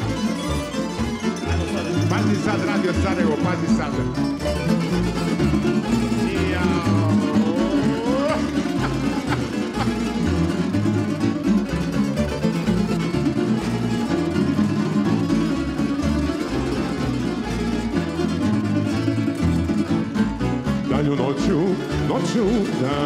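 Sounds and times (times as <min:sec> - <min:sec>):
plucked string ensemble: 0:00.0 - 0:23.0.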